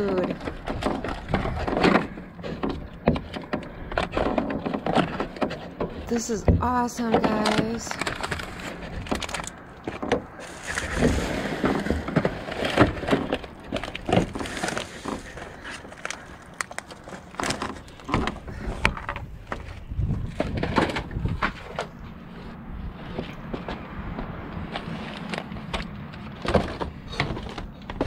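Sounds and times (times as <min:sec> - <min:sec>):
items knocking and clattering: 0:00.0 - 0:22.0, 0:24.7 - 0:28.0
rustling of plastic and packaging: 0:00.0 - 0:23.2.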